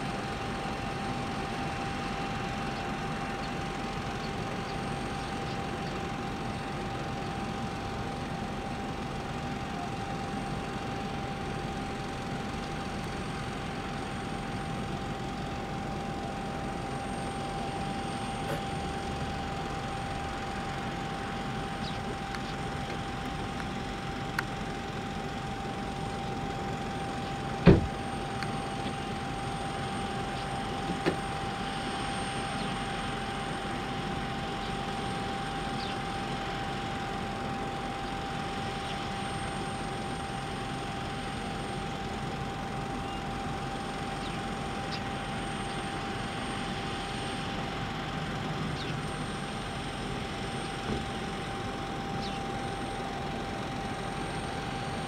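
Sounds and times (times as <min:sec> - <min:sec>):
mid-pitched whine: 0:00.0 - 0:55.0
rushing aircraft machinery: 0:00.0 - 0:55.0.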